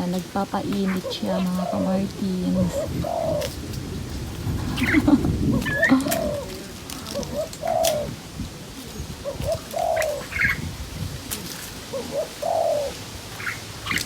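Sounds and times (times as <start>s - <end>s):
dove cooing: 0.0s - 8.3s, 8.9s - 14.0s.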